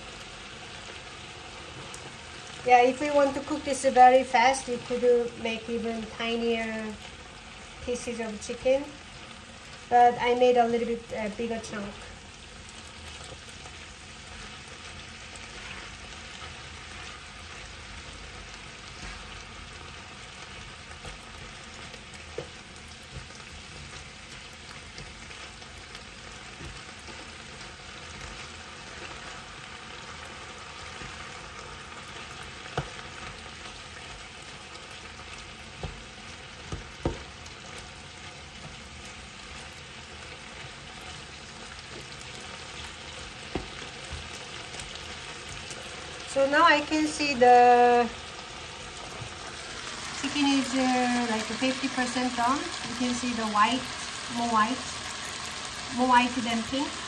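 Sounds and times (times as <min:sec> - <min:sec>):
chicken sizzling in a pan: 0:00.0 - 0:57.0.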